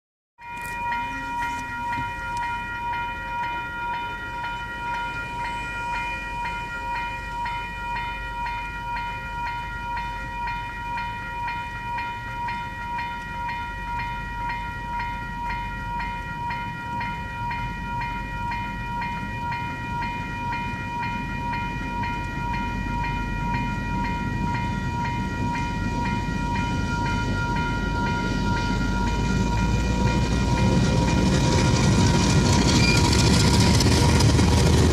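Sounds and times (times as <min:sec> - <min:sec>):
level crossing bell ringing: 0:00.4 - 0:30.8
train rumbling: 0:00.4 - 0:34.9.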